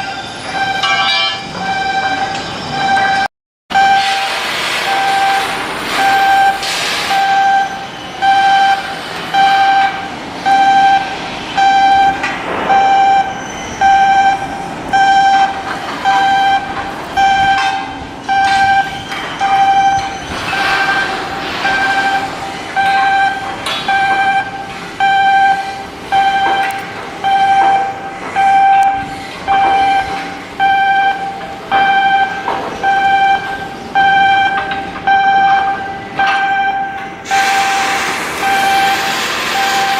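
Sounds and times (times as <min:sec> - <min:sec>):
background work noise: 0:00.0 - 0:39.9
electronic warning beeper: 0:00.0 - 0:39.9.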